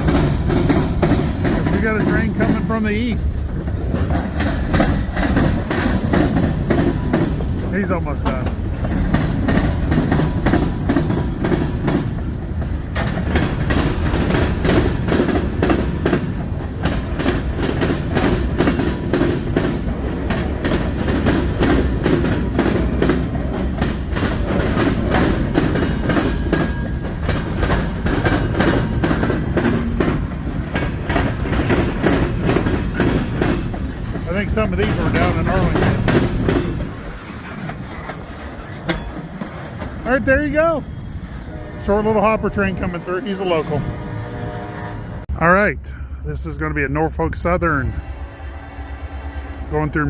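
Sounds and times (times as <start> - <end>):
wheels clicking over rail joints: 0.0 - 40.8
train rumble: 0.0 - 50.0.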